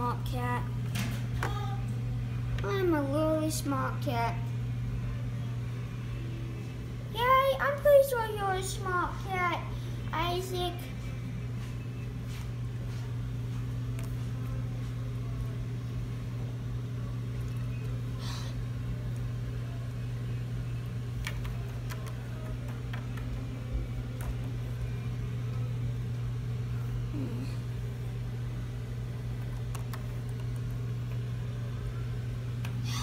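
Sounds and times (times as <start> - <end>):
fan humming: 0.0 - 33.0.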